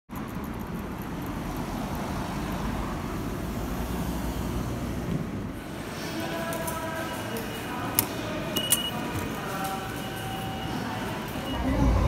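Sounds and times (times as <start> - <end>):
cars passing on road: 0.1 - 12.0.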